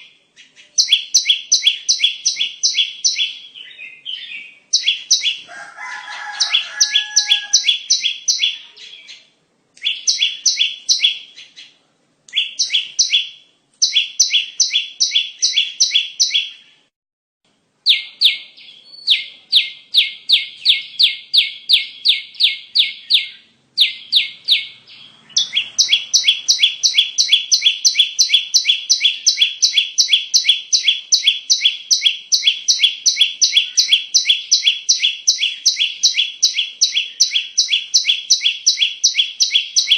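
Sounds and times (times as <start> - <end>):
bird sharp high chirps: 0.0 - 16.9, 17.8 - 39.9
fainter lower bird chirps: 0.0 - 16.9, 17.8 - 39.9.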